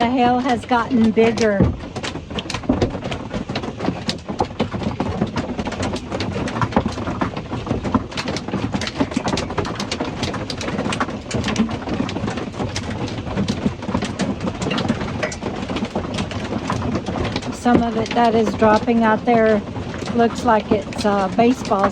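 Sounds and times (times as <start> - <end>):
hailstones clattering on metal roof: 0.0 - 21.9
steady rushing: 0.0 - 21.9.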